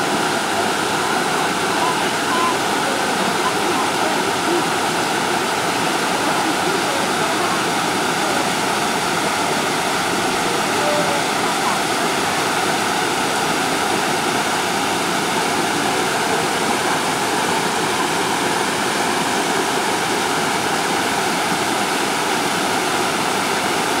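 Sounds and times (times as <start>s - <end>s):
small waterfall splashing: 0.0s - 24.0s.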